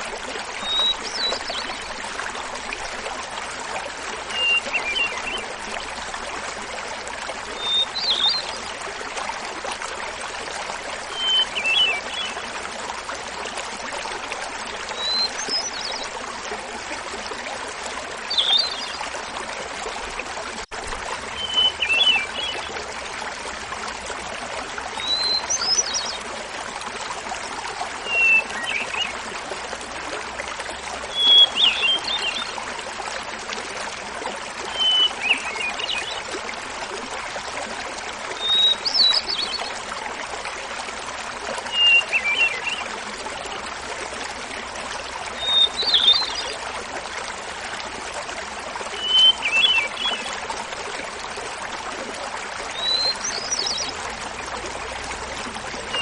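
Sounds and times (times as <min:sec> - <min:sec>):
small waterfall babbling: 0:00.0 - 0:56.0.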